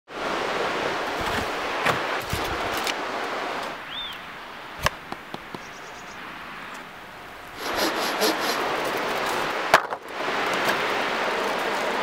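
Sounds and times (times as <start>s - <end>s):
river rushing over rapids: 0.1s - 12.0s.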